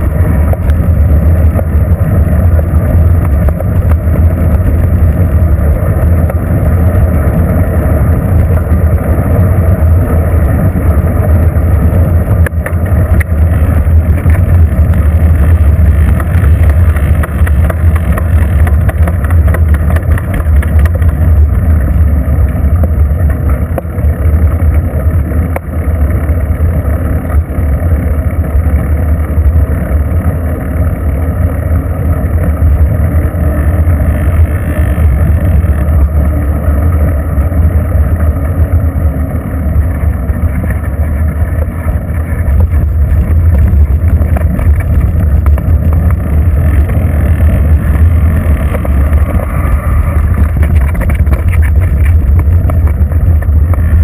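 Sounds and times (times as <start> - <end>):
bicycle riding rumble: 0.0 - 54.0.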